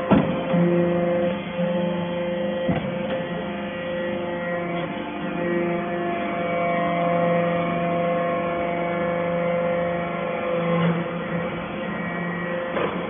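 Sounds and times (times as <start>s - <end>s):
hydraulic motor and pump humming: 0.0s - 13.0s.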